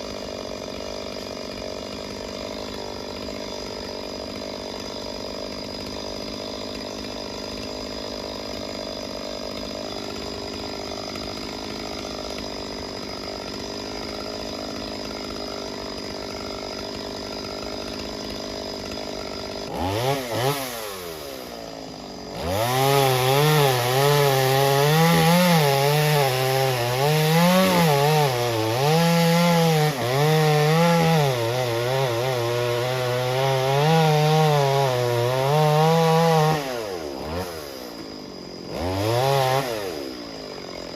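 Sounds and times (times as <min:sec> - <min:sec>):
chainsaw cutting wood: 0:00.0 - 0:40.9
chainsaw idling and revving: 0:00.0 - 0:40.9.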